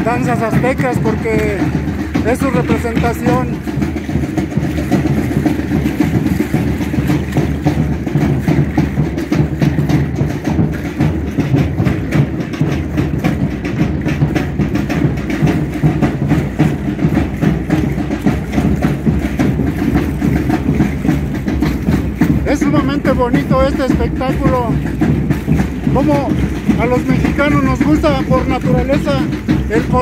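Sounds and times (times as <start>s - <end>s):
ankle rattles clattering: 0.0s - 30.0s
driving drum rhythm: 0.0s - 30.0s.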